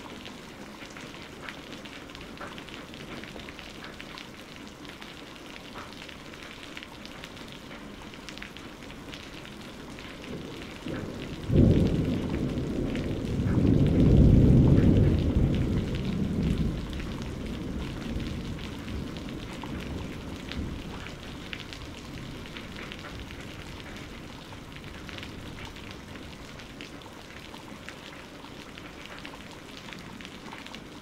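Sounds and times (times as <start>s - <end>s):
soft hiss with light crackles: 0.0s - 31.0s.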